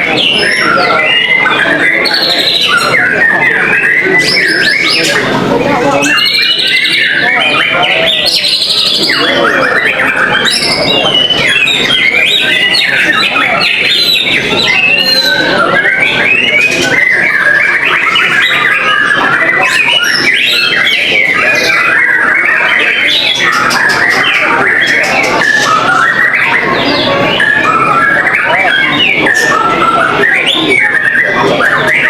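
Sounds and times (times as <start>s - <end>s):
birds singing whistles and trills: 0.0s - 32.0s.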